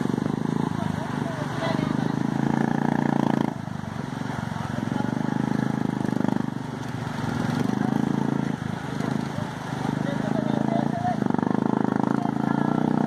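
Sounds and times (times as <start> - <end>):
motorcycle engine revving: 0.0 - 13.0
water rushing: 0.0 - 13.0.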